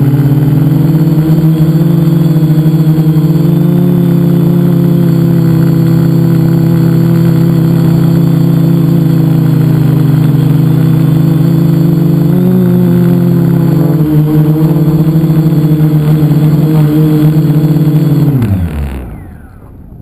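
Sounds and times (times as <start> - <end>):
drone motors buzzing: 0.0 - 20.0.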